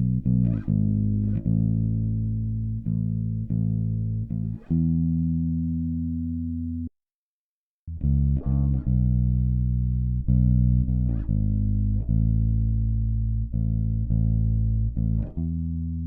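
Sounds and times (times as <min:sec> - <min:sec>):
clean electric bass plucked notes: 0:00.0 - 0:06.9, 0:07.9 - 0:16.0.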